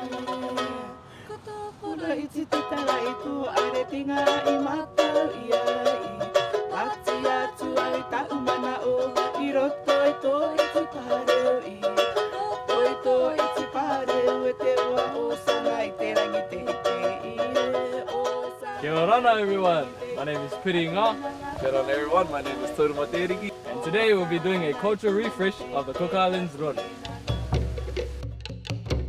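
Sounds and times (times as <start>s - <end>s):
women singing: 0.0s - 27.7s
ukulele strumming: 0.0s - 29.0s.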